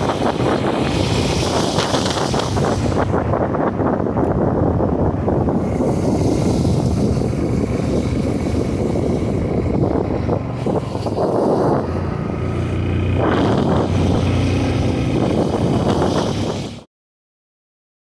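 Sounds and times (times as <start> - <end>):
motorcycle engine running: 0.0 - 16.6
wind rush on microphone: 0.0 - 16.9.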